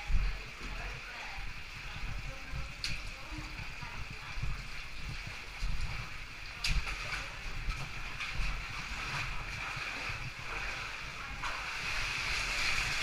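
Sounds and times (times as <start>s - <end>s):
cave stream rushing: 0.0s - 13.0s.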